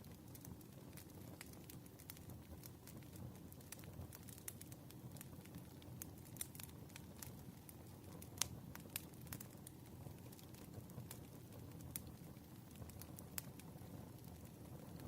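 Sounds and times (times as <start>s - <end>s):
fire popping: 0.0s - 15.0s
firewood crackling: 0.0s - 15.0s.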